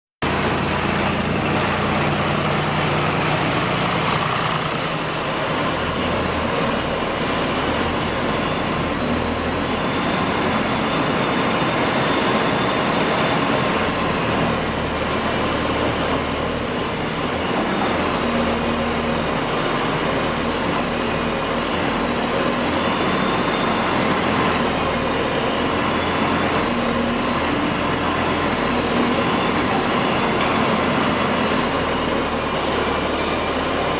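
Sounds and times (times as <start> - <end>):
diesel engine rumble: 0.2 - 33.9.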